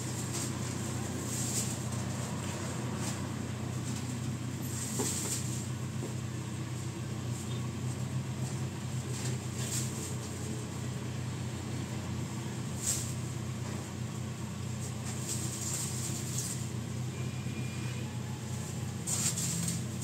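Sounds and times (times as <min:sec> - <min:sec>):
engine running low hum: 0:00.0 - 0:20.0.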